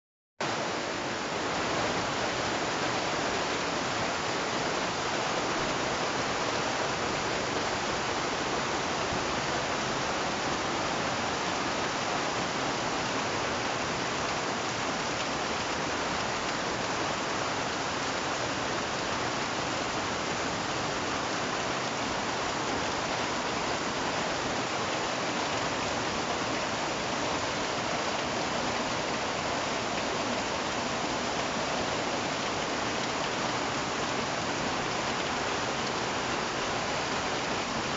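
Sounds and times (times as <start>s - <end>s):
steady rain falling: 0.4s - 37.9s.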